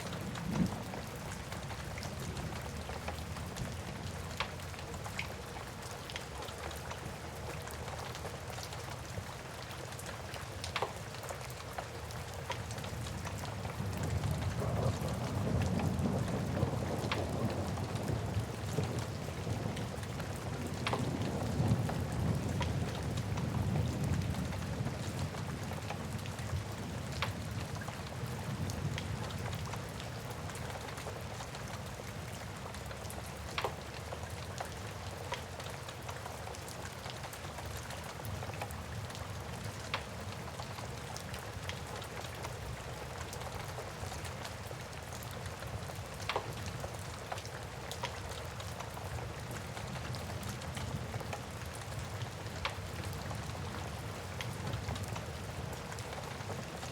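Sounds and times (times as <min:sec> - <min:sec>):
steady rain: 0:00.0 - 0:56.9.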